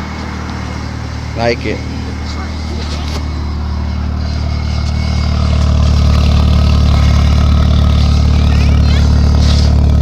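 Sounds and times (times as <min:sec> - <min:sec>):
car engine idling exhaust drone: 0:00.0 - 0:10.0.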